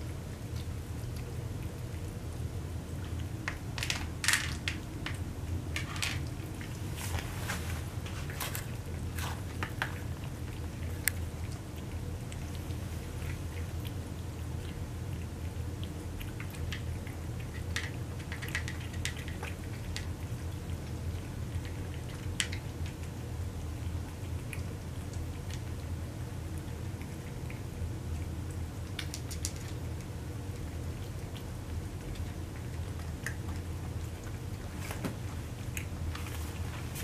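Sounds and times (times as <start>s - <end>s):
cats chewing wet food: 0.0s - 37.0s.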